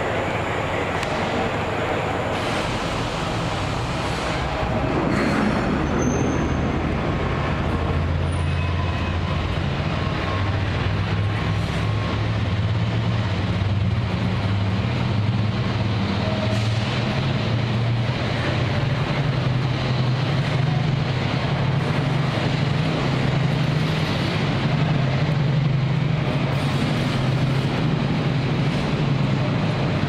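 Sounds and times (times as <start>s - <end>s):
diesel locomotive engine droning: 0.0s - 30.0s.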